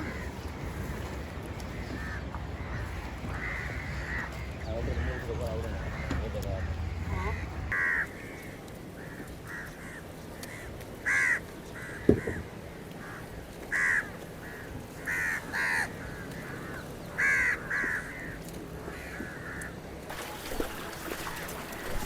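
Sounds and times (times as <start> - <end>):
crows cawing: 1.7 - 19.8.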